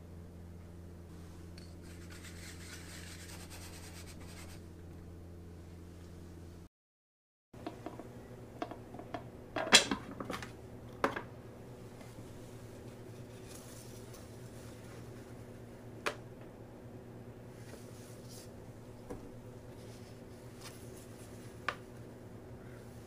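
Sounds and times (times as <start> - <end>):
low steady hum: 0.0 - 6.7, 7.6 - 23.0.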